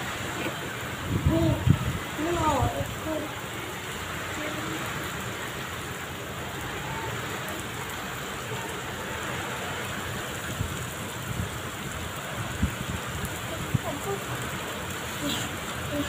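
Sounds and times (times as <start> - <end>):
heavy rain on muddy ground: 0.0 - 16.0.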